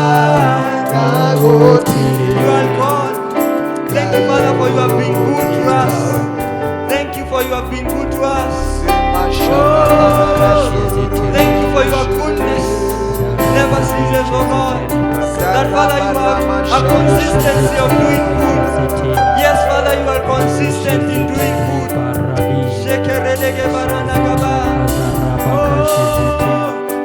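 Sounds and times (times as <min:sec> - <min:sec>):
gospel band playing: 0:00.0 - 0:27.0
person singing: 0:00.0 - 0:27.0
bass line: 0:04.0 - 0:26.8.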